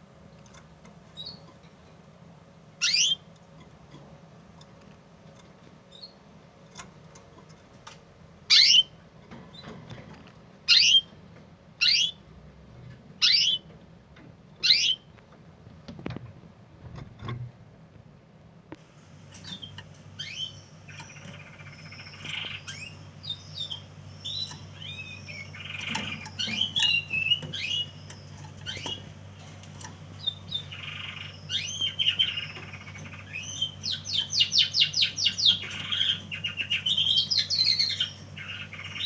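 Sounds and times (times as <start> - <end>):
canaries singing: 0.0 - 17.4, 18.8 - 39.0
low steady hum: 0.0 - 39.0.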